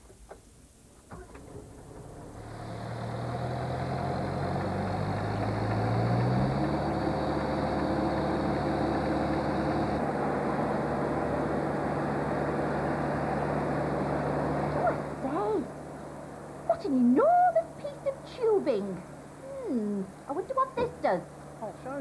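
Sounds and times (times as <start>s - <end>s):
street sweeper engine: 2.2s - 22.0s.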